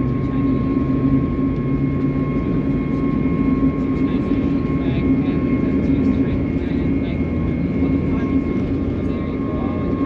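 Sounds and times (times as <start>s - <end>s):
constant hums: 0.0s - 10.0s
jet engines and rushing air: 0.0s - 10.0s.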